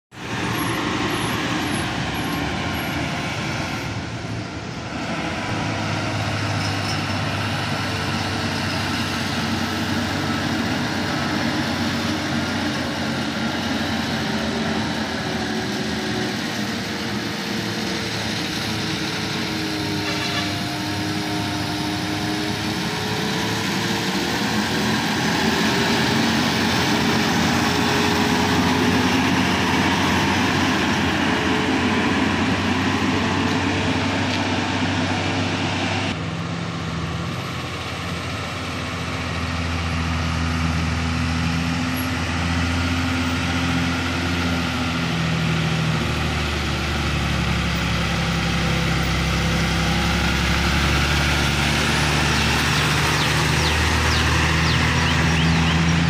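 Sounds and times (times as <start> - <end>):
bus passing: 0.1 - 56.0
heavy diesel lorry engine: 0.1 - 56.0.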